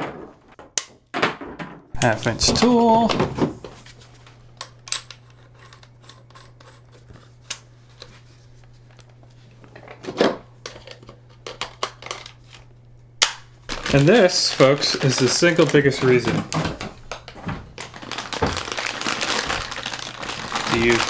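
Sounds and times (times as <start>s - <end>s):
low steady hum: 2.0s - 21.0s.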